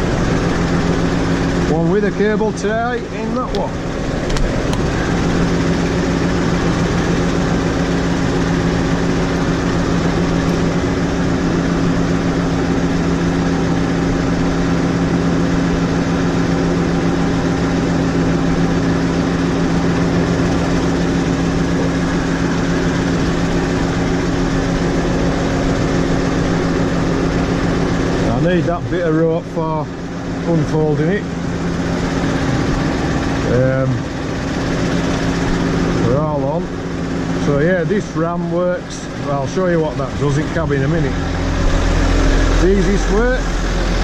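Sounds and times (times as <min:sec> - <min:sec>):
tractor engine idling: 0:00.0 - 0:44.0.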